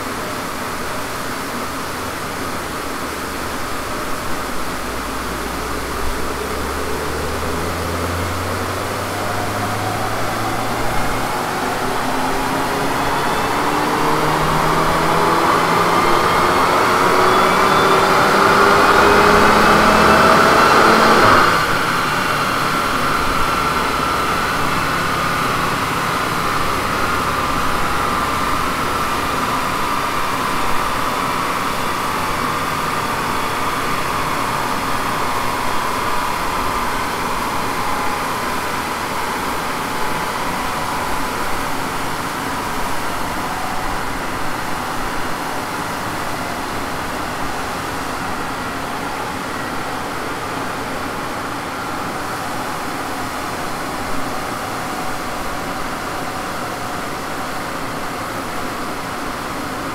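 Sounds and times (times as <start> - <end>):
car engine at full load: 0.0 - 59.9
dyno rollers and drivetrain whine: 0.0 - 59.9.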